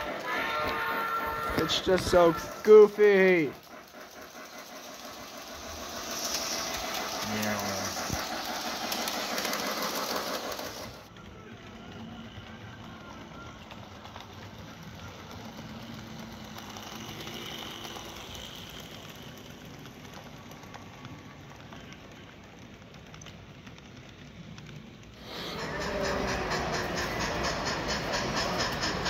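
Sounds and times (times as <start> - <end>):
model train clicking over rails: 0.0 - 29.0
model train humming past: 0.0 - 29.0.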